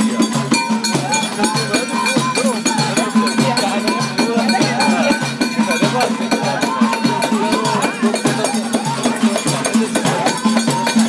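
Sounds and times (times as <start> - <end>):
frame drums: 0.0 - 11.0
men singing together: 0.0 - 11.0.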